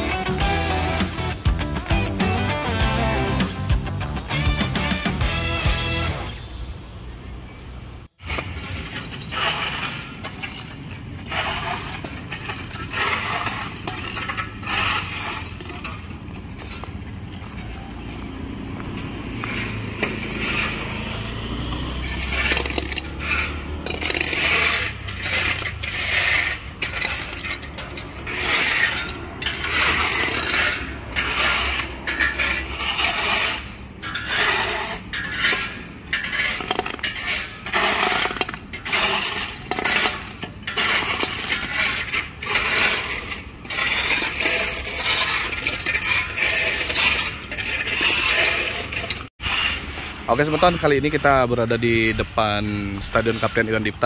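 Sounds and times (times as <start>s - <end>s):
shovels scraping gravel on pavement: 0.0s - 6.4s, 8.2s - 54.0s.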